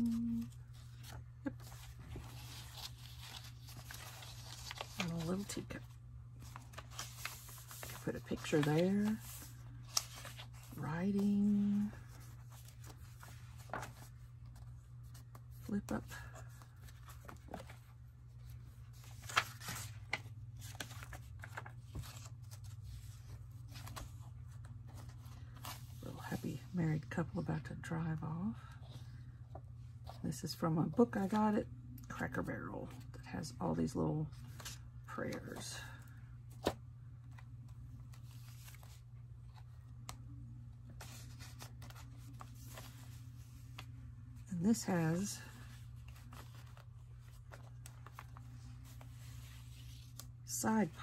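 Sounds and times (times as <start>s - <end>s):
paper pages being turned: 0.0s - 26.7s, 34.4s - 40.2s, 40.8s - 44.0s, 45.4s - 51.0s.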